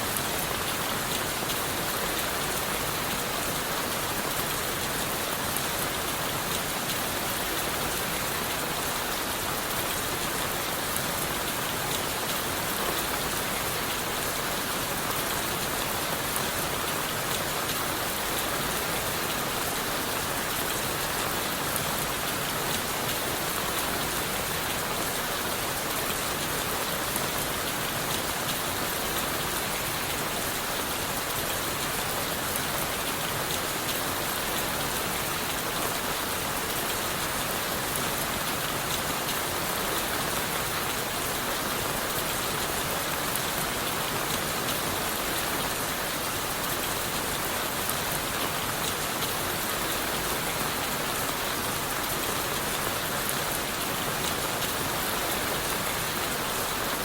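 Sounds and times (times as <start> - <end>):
steady rain on leaves: 0.0 - 57.0.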